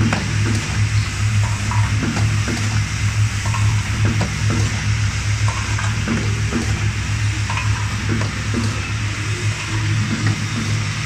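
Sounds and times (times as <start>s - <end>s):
machine clicks and clacks: 0.0s - 11.0s
machine low hum: 0.0s - 11.0s.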